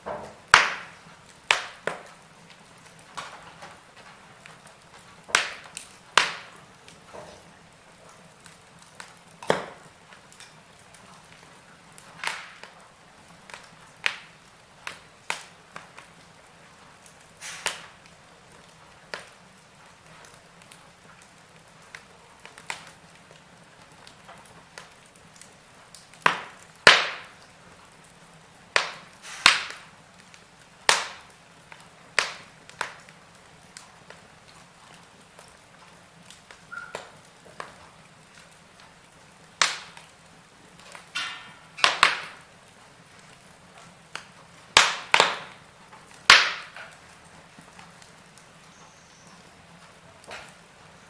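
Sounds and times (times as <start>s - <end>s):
faint steady hiss: 0.0s - 51.0s
wood fire crackling: 0.0s - 51.0s.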